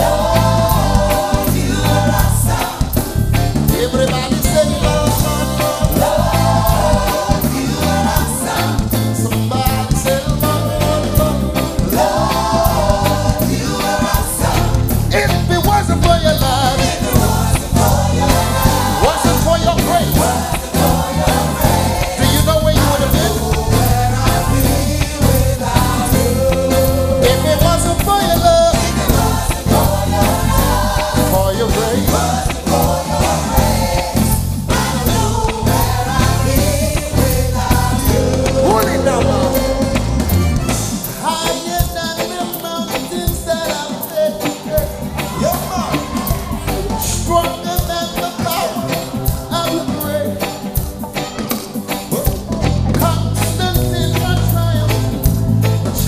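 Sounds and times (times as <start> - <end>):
group of singers singing: 0.0 - 56.0
live band playing reggae: 0.0 - 56.0.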